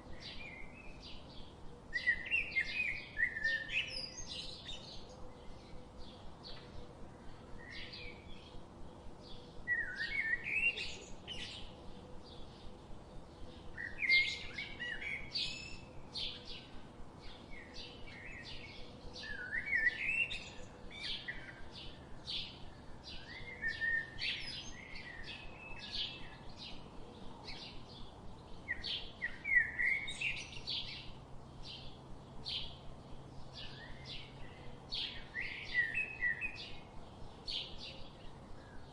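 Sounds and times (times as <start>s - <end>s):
songbirds chirping: 0.0s - 38.9s
warbling bird song: 0.0s - 38.9s.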